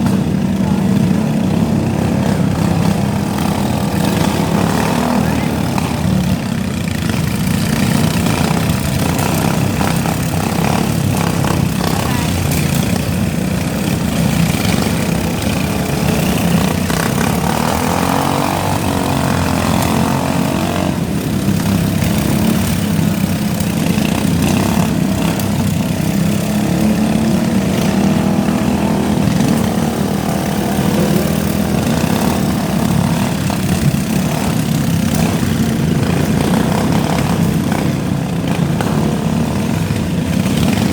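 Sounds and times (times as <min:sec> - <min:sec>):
lawn mower engines droning: 0:00.0 - 0:40.9.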